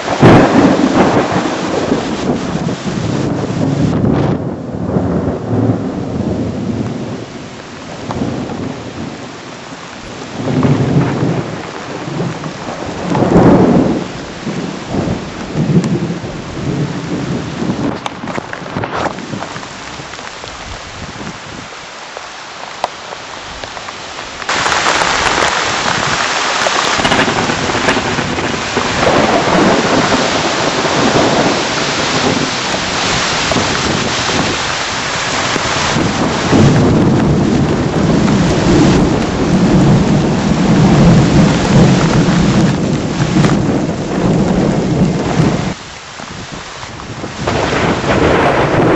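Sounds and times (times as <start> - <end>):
wind gusts buffeting microphone: 0.0 - 21.7, 24.3 - 48.9
heavy rain: 0.0 - 48.9.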